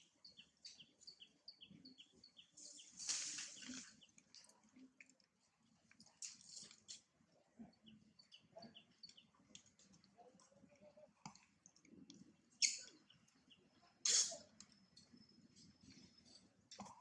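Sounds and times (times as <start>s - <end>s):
faint high chirps and clicks: 0.0s - 17.0s.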